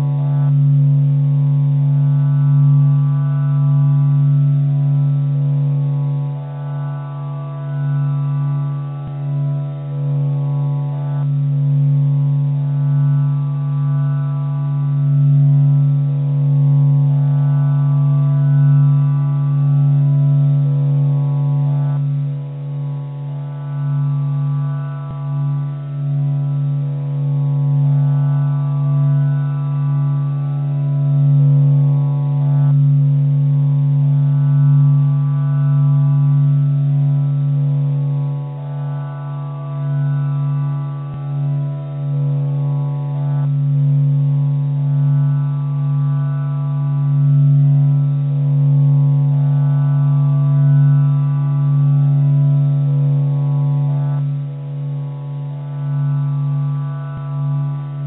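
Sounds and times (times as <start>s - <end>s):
low electronic drone: 0.0s - 58.0s.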